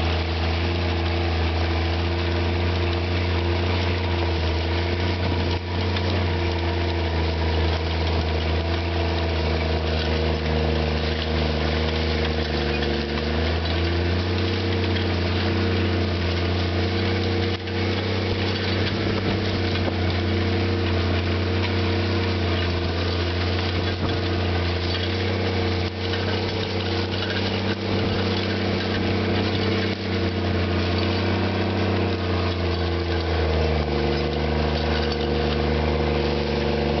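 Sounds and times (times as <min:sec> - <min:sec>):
constant rushing noise: 0:00.0 - 0:37.0
tractor diesel engine running: 0:00.0 - 0:37.0.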